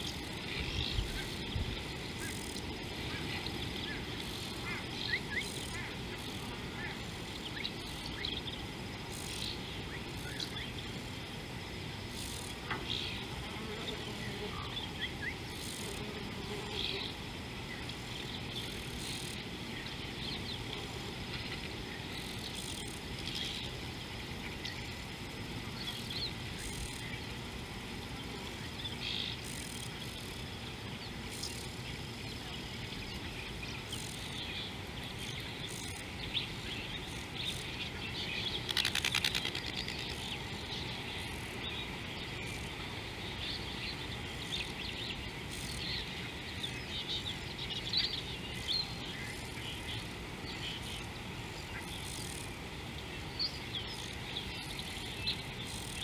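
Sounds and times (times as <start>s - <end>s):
insects calling: 0.0s - 56.0s.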